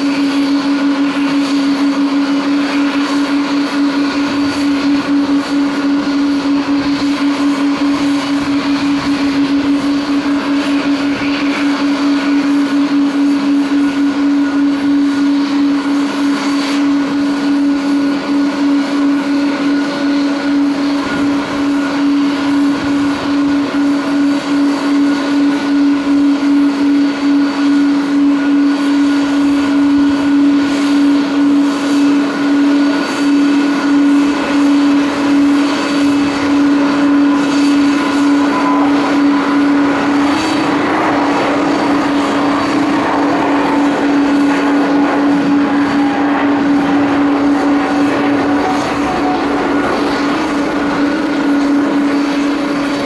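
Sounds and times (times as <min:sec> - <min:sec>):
jet engines at takeoff power: 0:00.0 - 0:53.0.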